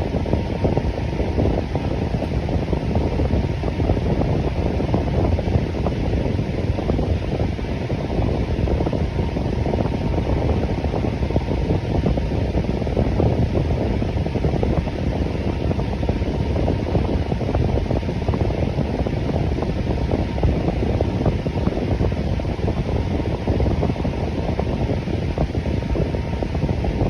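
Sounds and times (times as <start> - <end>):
electric fan running: 0.0 - 27.0.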